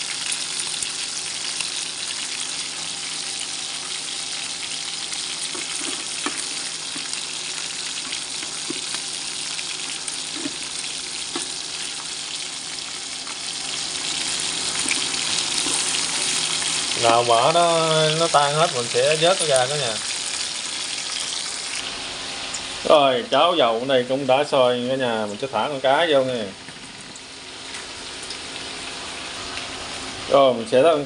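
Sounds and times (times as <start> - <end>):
meat sizzling in hot oil: 0.0 - 23.2, 24.0 - 30.4.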